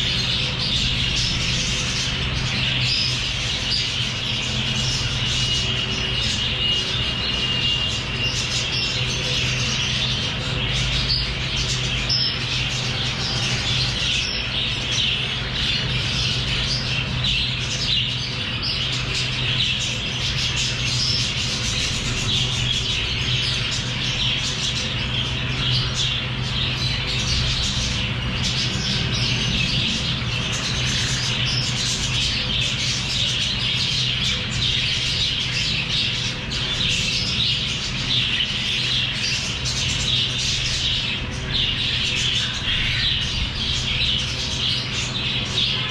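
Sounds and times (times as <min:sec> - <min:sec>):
lovebirds chattering and squawking: 0:00.0 - 0:45.9
steady low hum: 0:00.0 - 0:45.9.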